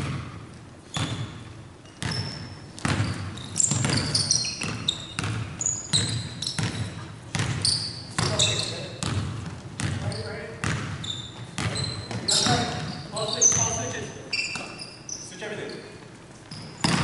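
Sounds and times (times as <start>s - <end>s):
basketball bouncing on hardwood floor: 0.0s - 13.8s, 16.5s - 17.0s
sneaker squeaks: 0.0s - 17.0s.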